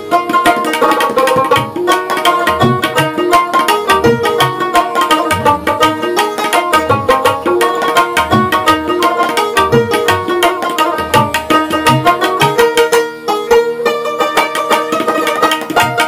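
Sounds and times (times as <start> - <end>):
plucked string melody: 0.0 - 16.0
tabla beat: 0.0 - 16.0.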